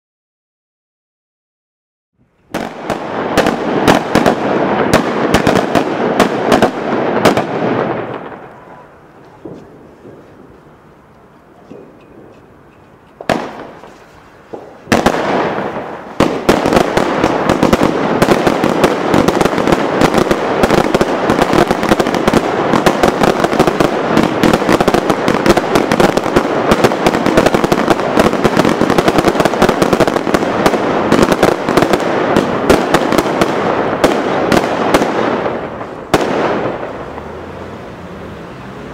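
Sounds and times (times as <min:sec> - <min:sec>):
firework crackling pops: 0:02.4 - 0:12.5, 0:13.1 - 0:37.6
firework bangs: 0:02.5 - 0:12.6, 0:13.2 - 0:38.9.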